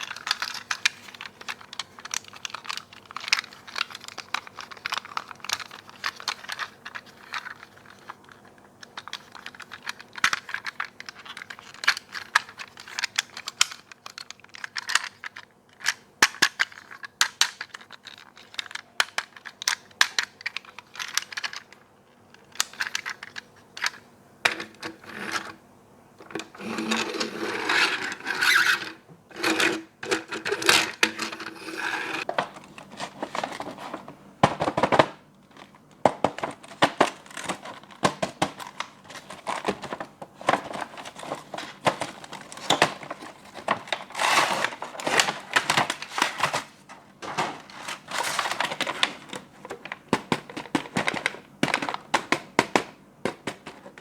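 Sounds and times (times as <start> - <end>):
plastic toys clicking and tapping: 0.0 - 25.5, 34.4 - 46.6, 47.3 - 54.0
plastic scraping and rubbing: 0.0 - 25.6, 26.2 - 54.0.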